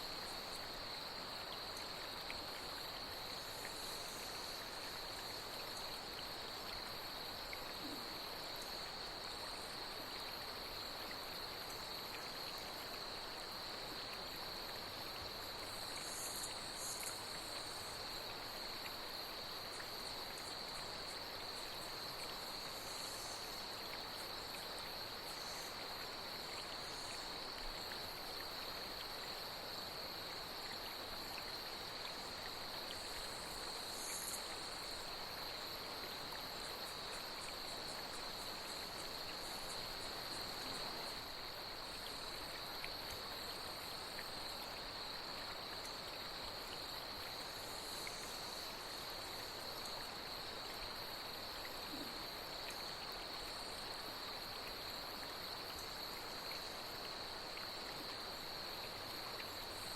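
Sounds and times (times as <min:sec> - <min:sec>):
flowing water: 0:00.0 - 0:59.9
insects trilling: 0:00.0 - 0:59.9.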